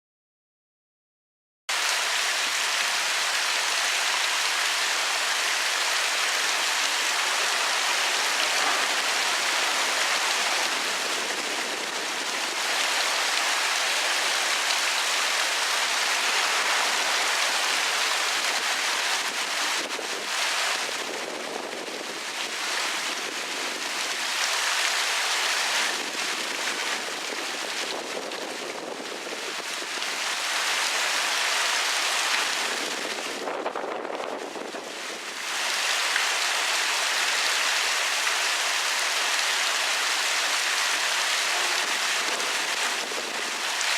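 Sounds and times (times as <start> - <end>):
waterfall rushing: 1.7 - 33.8, 34.4 - 43.9.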